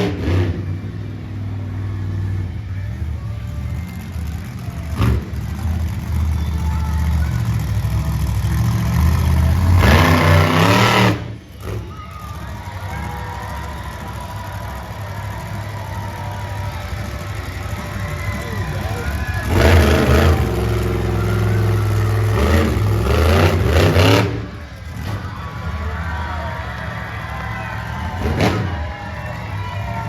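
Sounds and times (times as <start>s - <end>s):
monster truck engine revving: 0.0s - 30.0s.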